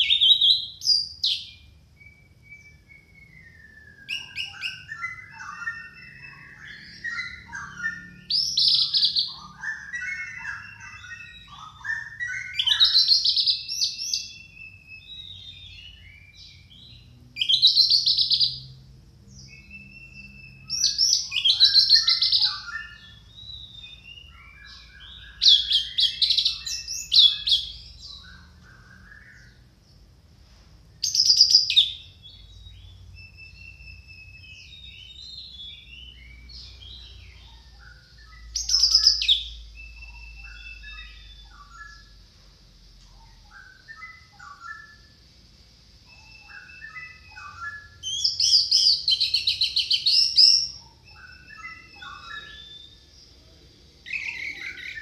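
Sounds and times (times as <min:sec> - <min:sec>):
soft bird twittering: 0:00.0 - 0:55.0.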